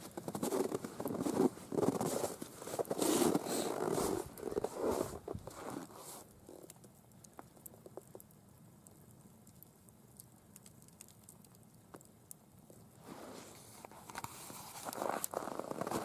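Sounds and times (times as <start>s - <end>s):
soft rustle: 0.0s - 8.3s, 10.6s - 16.0s
campfire crackling: 0.0s - 15.4s.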